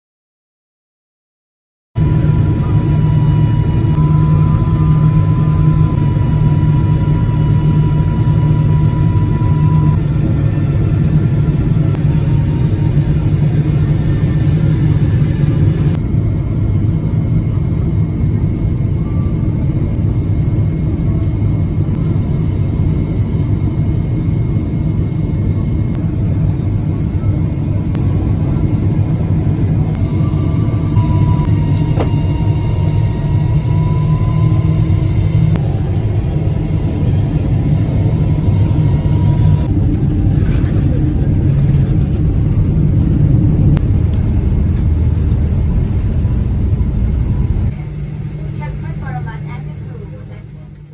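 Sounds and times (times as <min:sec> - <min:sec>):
faint whine tones: 0:02.0 - 0:50.9
jet engines and airflow rumble: 0:02.0 - 0:50.9.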